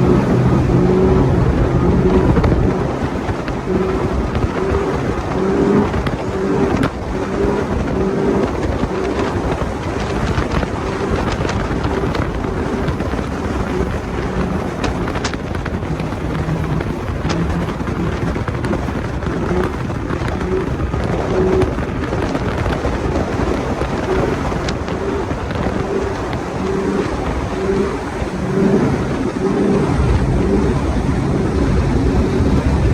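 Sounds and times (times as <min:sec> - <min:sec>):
small boat engine: 0:00.0 - 0:32.9.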